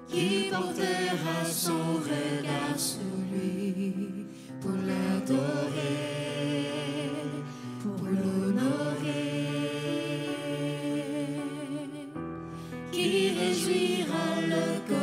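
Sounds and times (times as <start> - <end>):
group singing in harmony: 0.0 - 12.2, 12.8 - 15.0
digital piano accompaniment: 0.0 - 15.0.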